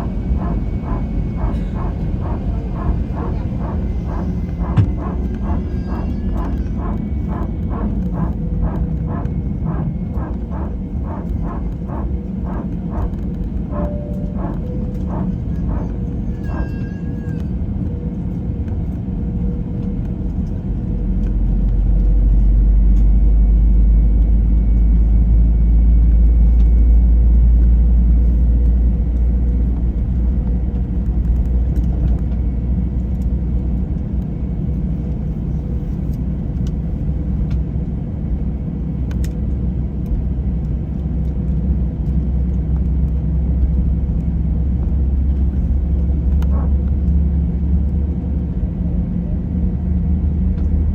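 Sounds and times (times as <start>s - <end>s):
jet engines deep rumble: 0.0s - 50.9s.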